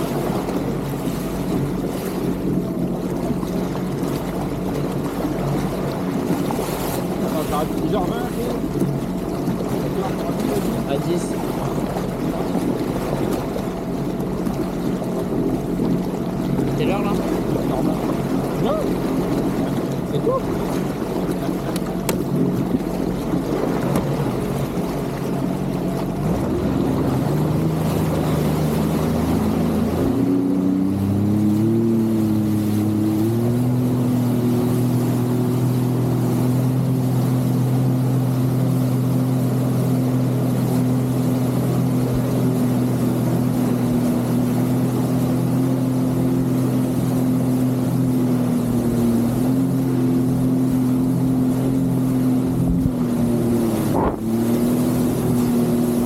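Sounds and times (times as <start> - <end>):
jet ski engine running: 0.0 - 56.0.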